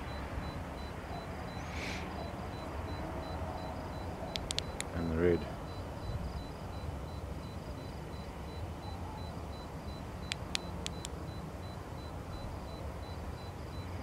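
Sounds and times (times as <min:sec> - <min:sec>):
faint high pulsing chirp: 0:00.0 - 0:14.0.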